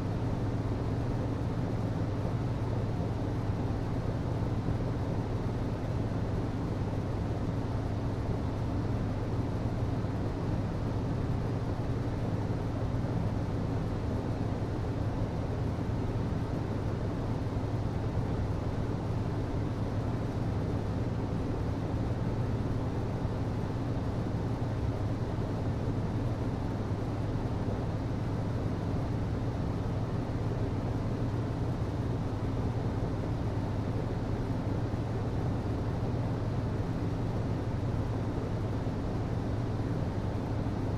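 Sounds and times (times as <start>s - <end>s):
hvac system humming: 0.0s - 40.9s.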